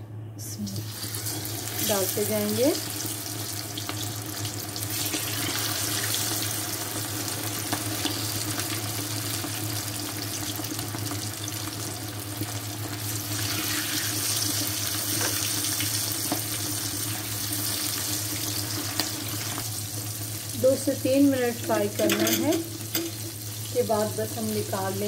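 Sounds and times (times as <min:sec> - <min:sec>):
chicken deep-frying in hot oil: 0:00.6 - 0:25.0.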